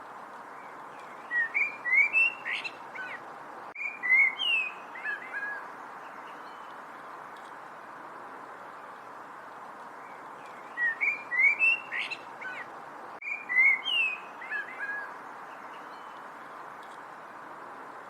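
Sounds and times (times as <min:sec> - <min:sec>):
background hiss: 0:00.0 - 0:18.0
songbird singing: 0:00.4 - 0:07.6, 0:08.5 - 0:18.0.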